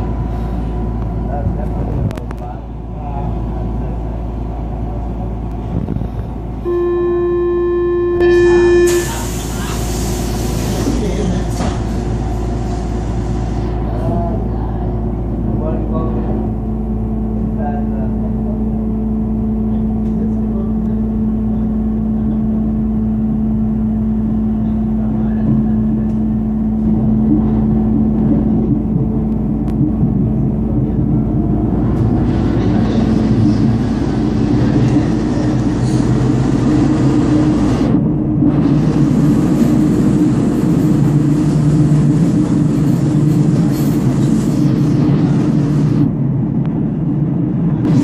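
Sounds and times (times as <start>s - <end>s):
constant low hum: 0.0s - 48.0s
train running rumble: 0.0s - 48.0s.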